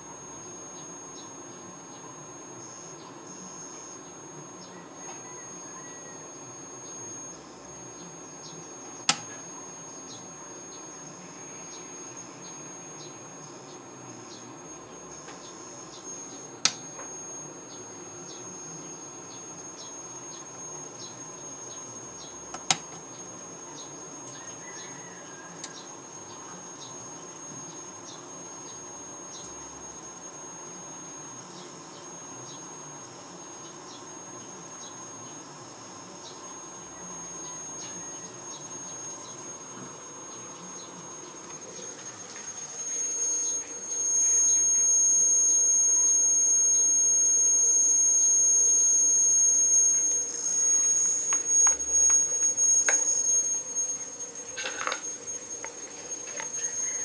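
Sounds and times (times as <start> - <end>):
high-pitched whine: 0.0 - 57.0
insects chirping: 0.0 - 57.0.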